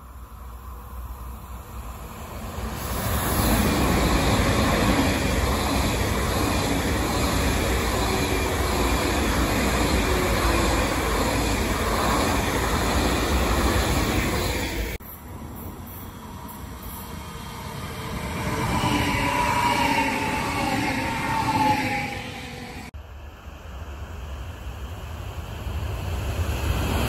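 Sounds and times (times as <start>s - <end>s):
high-speed train passing: 0.0s - 27.0s.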